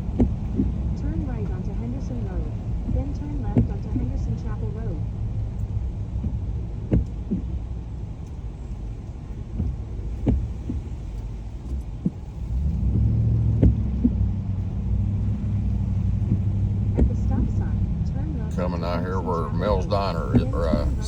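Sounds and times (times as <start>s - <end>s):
car road noise on wet road: 0.0s - 21.0s.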